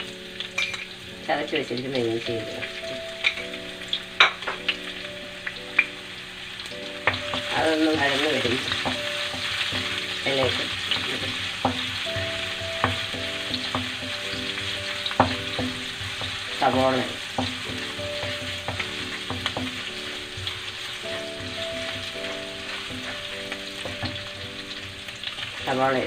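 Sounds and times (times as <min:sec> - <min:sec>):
garlic sizzling in hot oil: 0:00.0 - 0:26.0.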